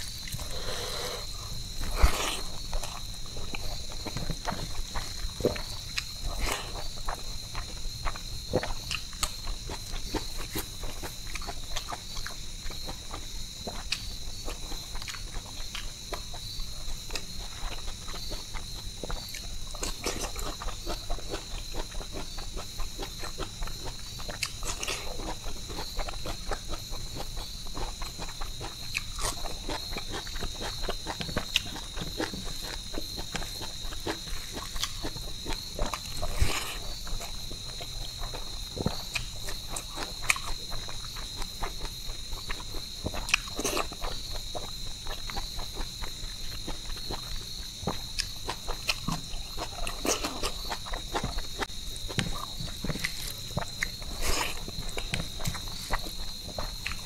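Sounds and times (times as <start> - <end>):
insect trill: 0.0 - 57.0
wet chewing and lip smacking: 0.0 - 57.0.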